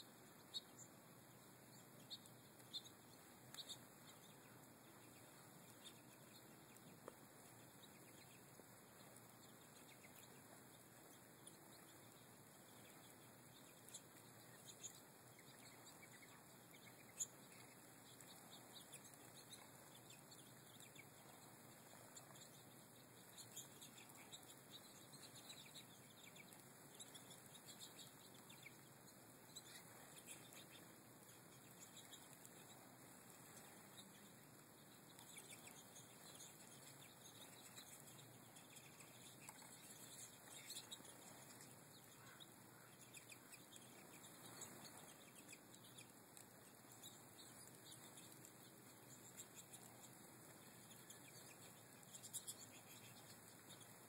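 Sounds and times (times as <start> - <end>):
finches chirping: 0.0 - 54.0.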